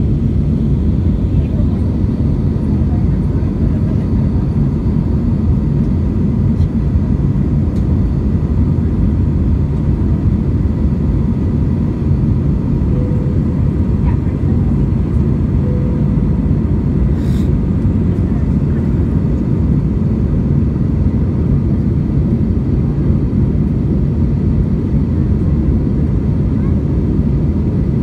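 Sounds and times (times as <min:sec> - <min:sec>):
jet engine cabin rumble: 0:00.0 - 0:28.0.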